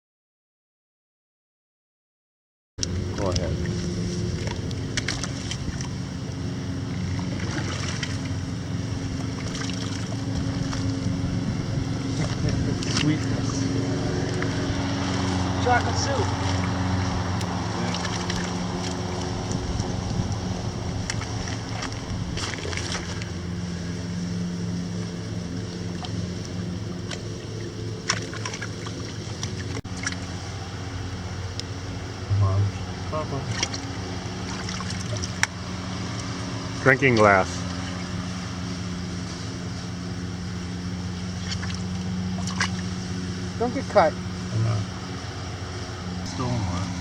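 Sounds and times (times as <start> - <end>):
motor humming: 2.8 - 47.0
small engine running: 2.8 - 47.0.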